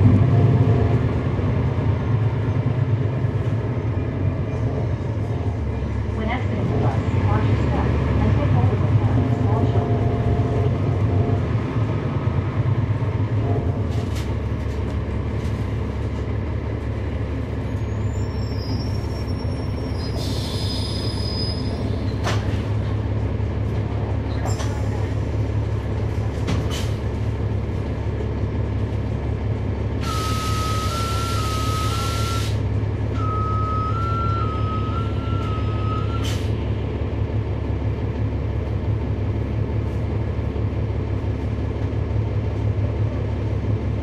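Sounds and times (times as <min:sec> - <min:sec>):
diesel bus engine running: 0:00.0 - 0:44.0.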